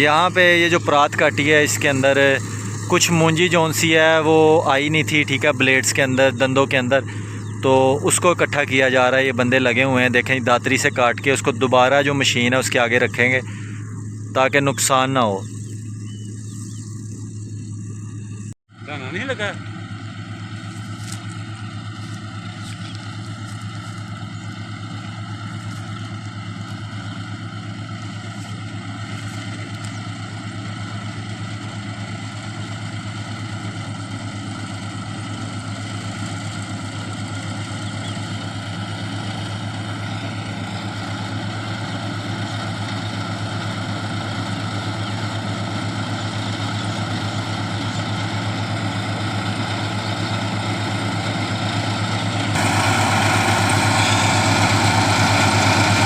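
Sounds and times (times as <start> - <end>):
diesel engine low drone: 0.0 - 56.0.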